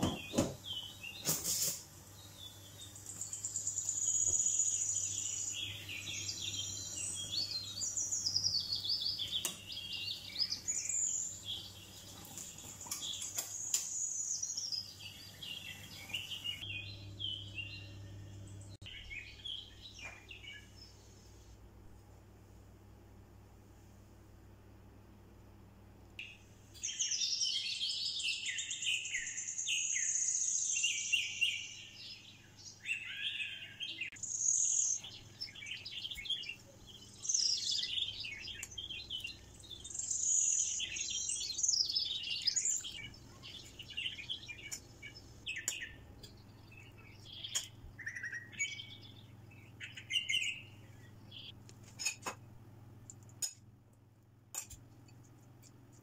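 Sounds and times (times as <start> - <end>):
birds chirping and singing: 0.0 - 20.9, 26.2 - 52.2.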